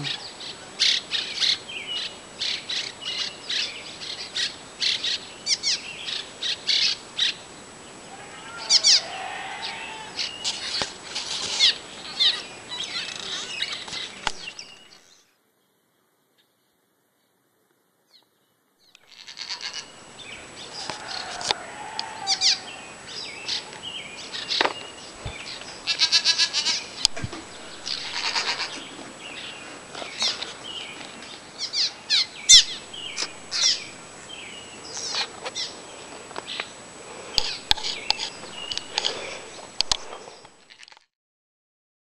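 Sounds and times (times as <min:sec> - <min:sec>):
flock of small birds chirping: 0:00.0 - 0:15.3, 0:18.9 - 0:41.0.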